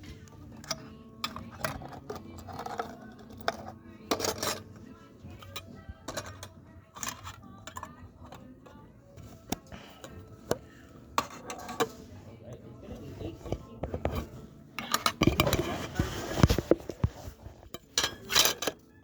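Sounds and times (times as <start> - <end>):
faint voices: 0.0 - 17.4
low background hum: 0.0 - 19.0.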